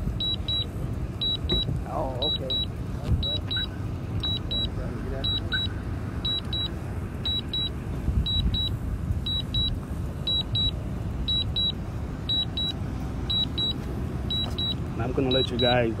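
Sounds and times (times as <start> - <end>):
steady low rumble: 0.0 - 16.0
high double beeps: 0.2 - 15.8.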